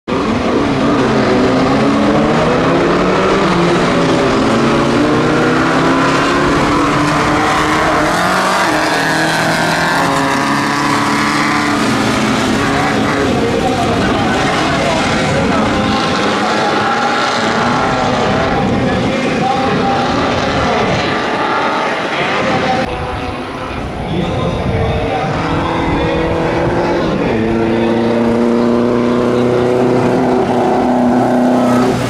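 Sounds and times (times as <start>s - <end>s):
race buggy engines revving: 0.1s - 32.0s.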